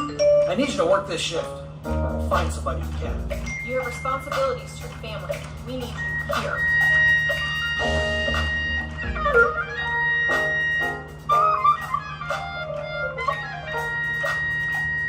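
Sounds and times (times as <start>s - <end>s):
marching band playing: 1.9s - 15.0s.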